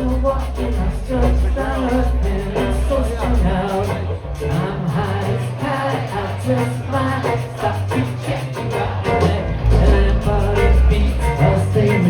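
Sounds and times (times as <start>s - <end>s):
live rock band playing: 0.0s - 12.0s
person singing: 0.0s - 12.0s.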